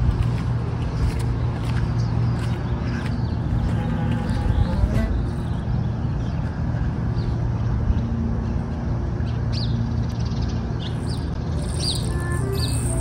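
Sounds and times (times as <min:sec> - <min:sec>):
low street rumble: 0:00.0 - 0:13.0
small birds chirping: 0:00.1 - 0:13.0.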